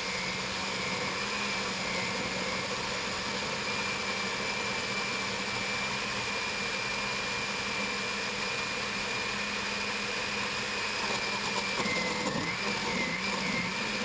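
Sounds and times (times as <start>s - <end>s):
blender motor whining: 0.0s - 14.0s.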